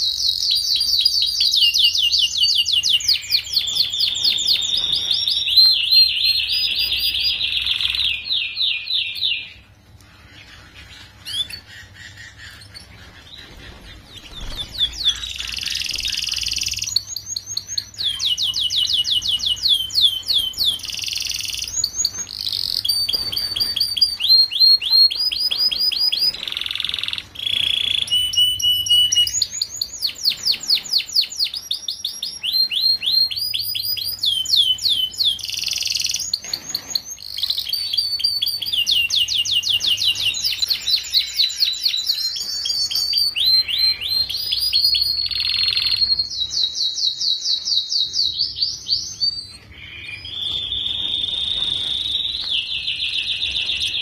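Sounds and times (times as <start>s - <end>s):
canary singing rapid trills: 0.0s - 54.0s.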